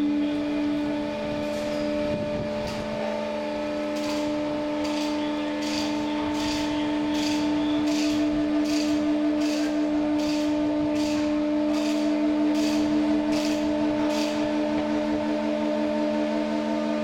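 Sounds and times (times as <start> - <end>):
winch mechanical hum: 0.0 - 17.0.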